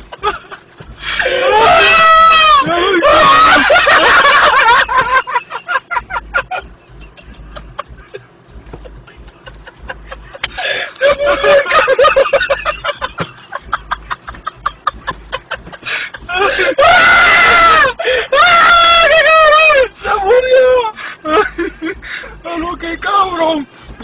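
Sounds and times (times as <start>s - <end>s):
people laughing hard: 0.0s - 22.6s.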